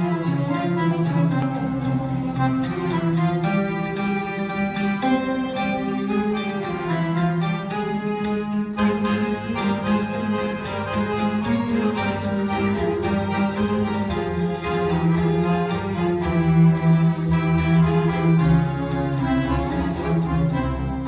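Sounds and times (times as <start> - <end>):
accordion melody: 0.0 - 21.0.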